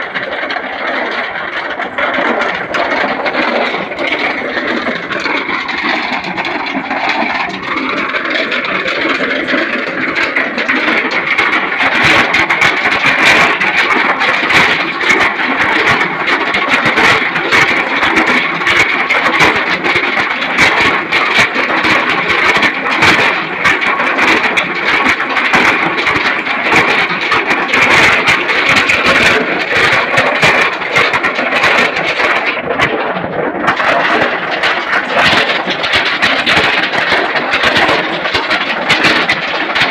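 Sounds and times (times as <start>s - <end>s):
ore clattering in drum mill: 0.0s - 39.9s.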